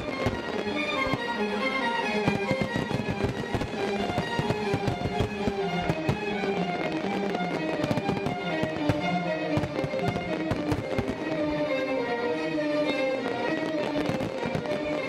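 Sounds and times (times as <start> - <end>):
fireworks bangs and crackles: 0.0 - 12.0, 12.8 - 15.0
orchestral music with strings: 0.0 - 15.0.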